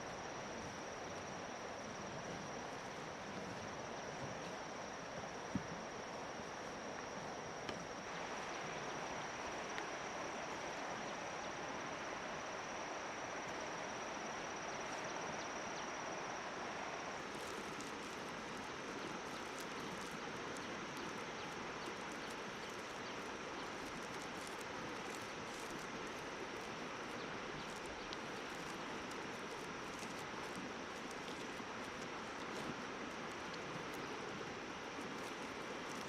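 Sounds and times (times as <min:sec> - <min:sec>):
outdoor background noise: 0:00.0 - 0:36.0.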